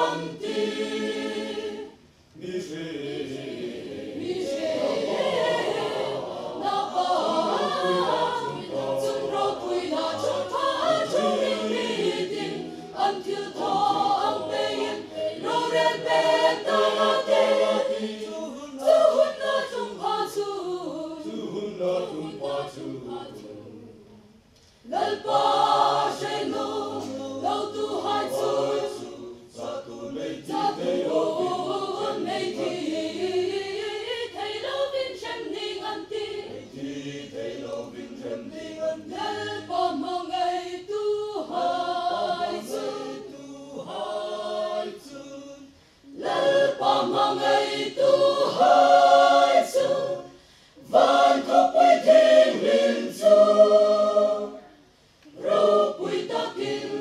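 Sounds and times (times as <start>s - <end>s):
choir singing a hymn: 0.0s - 54.7s, 55.3s - 57.0s.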